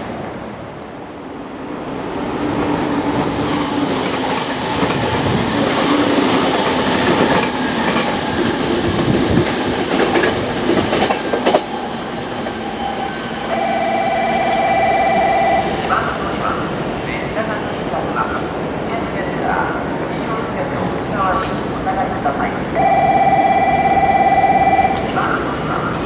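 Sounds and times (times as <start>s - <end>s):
train passing with rail clatter: 0.0s - 26.0s.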